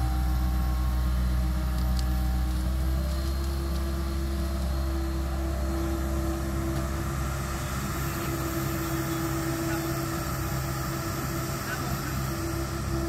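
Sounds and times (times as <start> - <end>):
excavator diesel engine running: 0.0 - 13.0
steady whining tone: 0.0 - 13.0.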